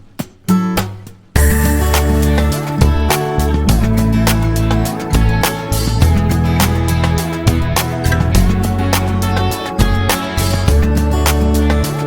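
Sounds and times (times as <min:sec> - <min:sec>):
instrumental music with steady beat: 0:00.0 - 0:12.0
sustained low bass notes: 0:01.4 - 0:12.0.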